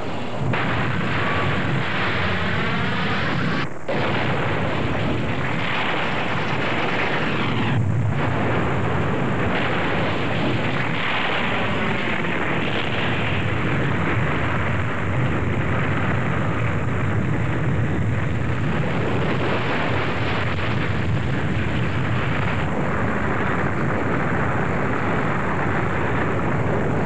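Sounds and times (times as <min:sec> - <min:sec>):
fire roaring: 0:00.0 - 0:27.0.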